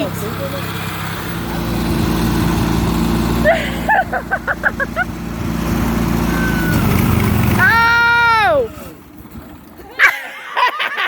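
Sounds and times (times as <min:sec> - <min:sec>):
lawnmower engine running: 0:00.0 - 0:10.6.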